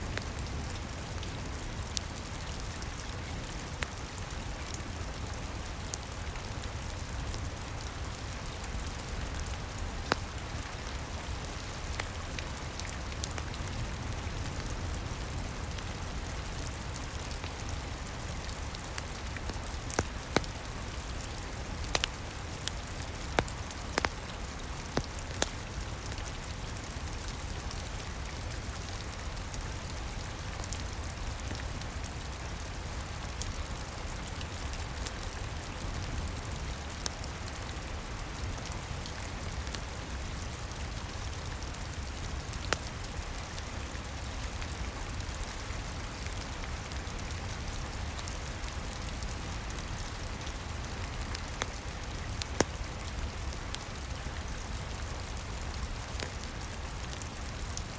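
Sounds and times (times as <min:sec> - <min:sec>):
rain falling: 0:00.0 - 0:57.9
wood fire crackling: 0:00.0 - 0:57.9.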